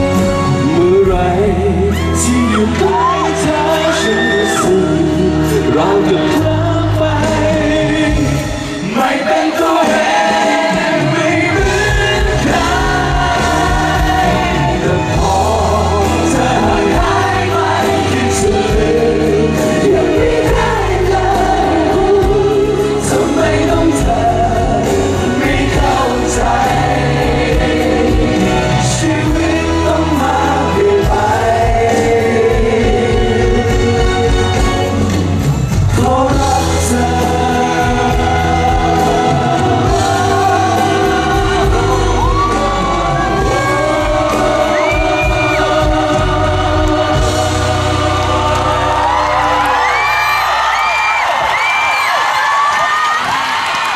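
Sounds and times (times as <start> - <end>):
live band with bass and drums: 0.0 - 53.9
voices singing together: 0.0 - 53.9.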